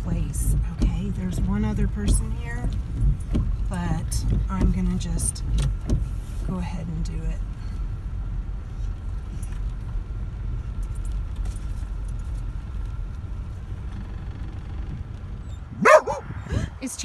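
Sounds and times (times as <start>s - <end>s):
car rumble from cabin: 0.0s - 17.0s.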